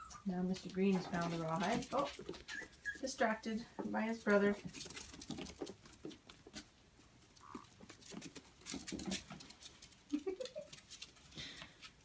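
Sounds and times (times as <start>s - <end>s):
puppy paws pattering on hard floor: 0.0s - 12.0s.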